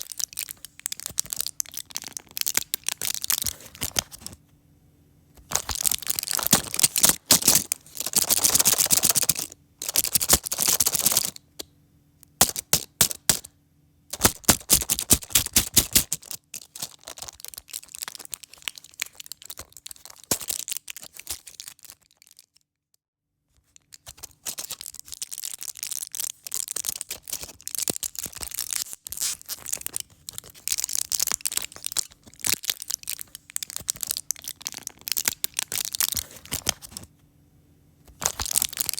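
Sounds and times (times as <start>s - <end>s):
pill pack crinkling: 0.0s - 4.4s, 5.4s - 11.6s, 12.4s - 13.5s, 14.1s - 22.6s, 23.7s - 37.1s, 38.1s - 38.9s.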